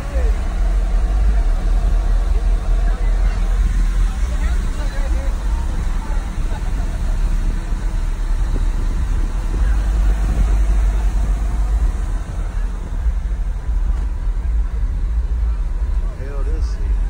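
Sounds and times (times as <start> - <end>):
deep bass from subwoofers: 0.0 - 17.0.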